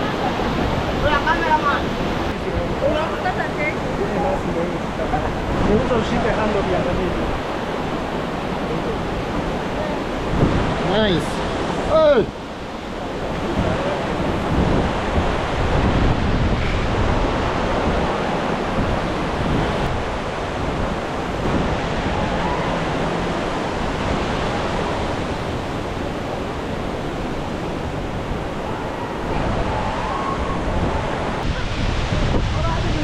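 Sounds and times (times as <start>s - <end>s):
waterfall roaring: 0.0s - 33.0s
wind buffeting microphone: 0.0s - 33.0s.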